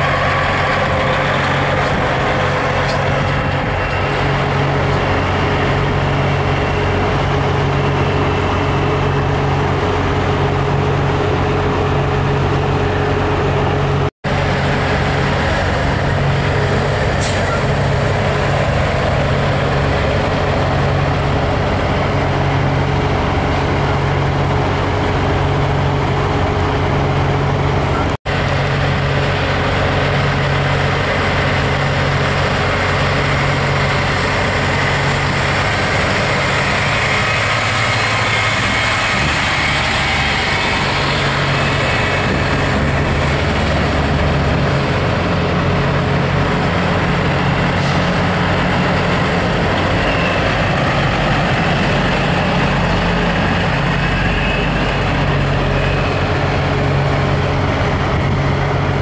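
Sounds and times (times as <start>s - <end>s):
truck diesel engines droning: 0.0s - 59.0s.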